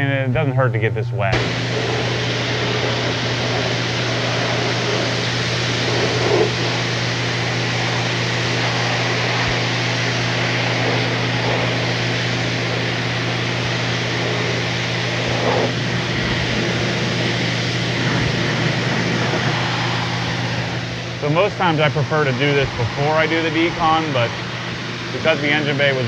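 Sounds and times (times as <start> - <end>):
pressure washer motor hum: 1.2 - 26.0
water spray hissing on metal: 1.4 - 26.0.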